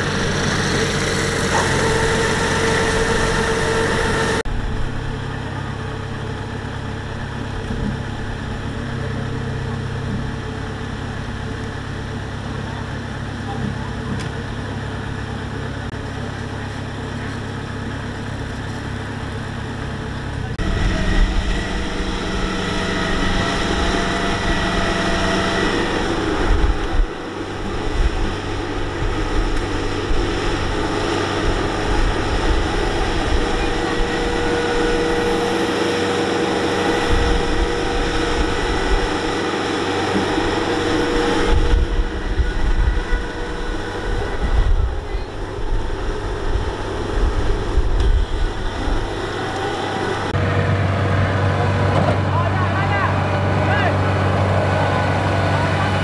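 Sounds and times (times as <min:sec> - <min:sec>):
combine harvester diesel engine: 0:00.0 - 0:56.0
low buffeting rumbles: 0:00.0 - 0:56.0
whine of working machinery: 0:00.0 - 0:56.0.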